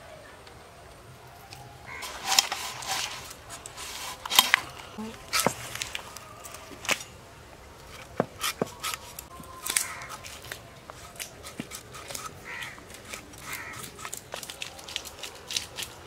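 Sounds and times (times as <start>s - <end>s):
knife peeling and slicing fruit: 1.4s - 7.2s, 7.8s - 16.0s.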